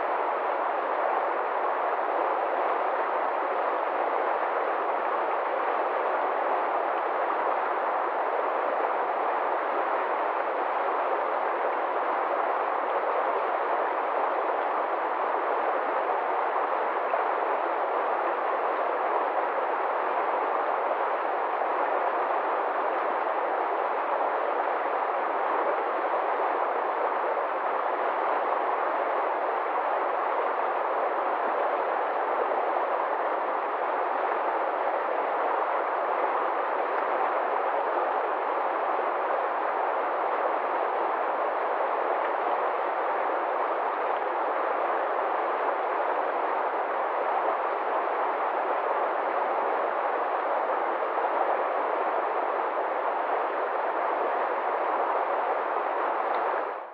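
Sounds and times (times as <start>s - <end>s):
river rushing over shallows: 0.0s - 56.9s.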